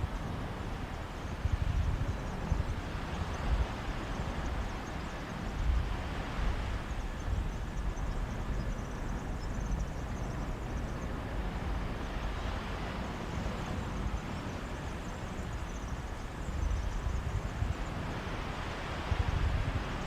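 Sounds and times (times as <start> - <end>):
sea breeze: 0.0 - 20.0
sea surf: 0.0 - 20.0.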